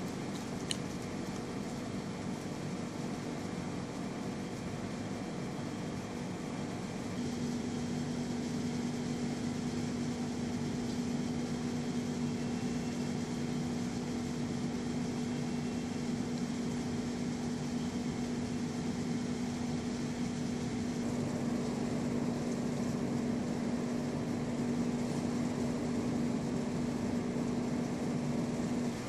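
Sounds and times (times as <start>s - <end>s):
aquarium equipment hum and hiss: 0.0s - 29.0s.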